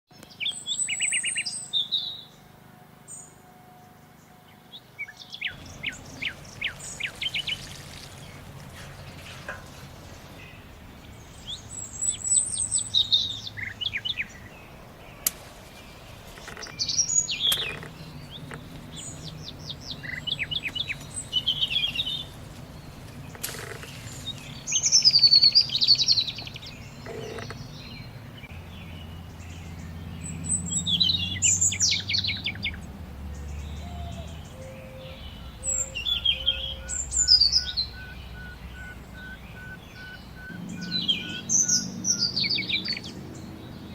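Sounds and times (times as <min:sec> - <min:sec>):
songbirds singing: 0:00.1 - 0:02.5, 0:04.2 - 0:43.9.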